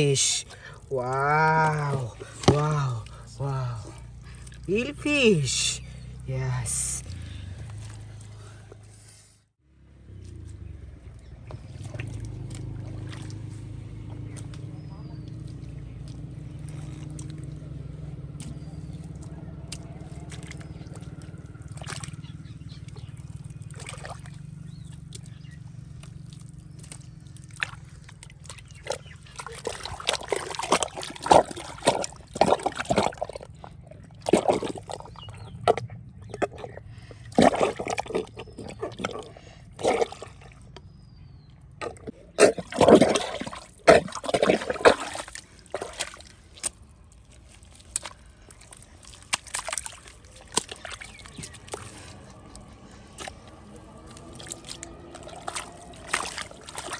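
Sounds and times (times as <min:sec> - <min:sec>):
water trickling: 0:00.0 - 0:08.9, 0:10.1 - 0:56.9
muddy water sloshing and splashing: 0:00.0 - 0:56.9.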